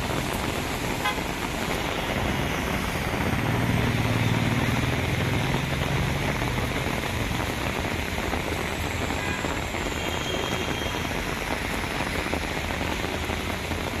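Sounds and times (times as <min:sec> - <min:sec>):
heavy rain on road: 0:00.0 - 0:14.0.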